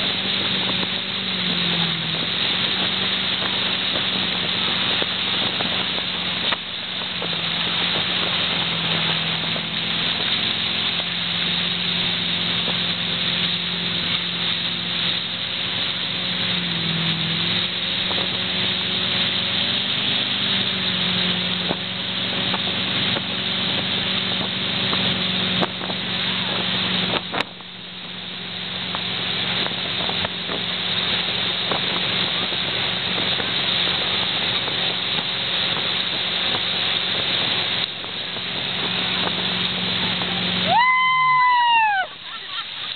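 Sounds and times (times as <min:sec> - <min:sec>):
motorboat engine running: 0:00.0 - 0:42.9
wind and water rushing: 0:00.0 - 0:42.9.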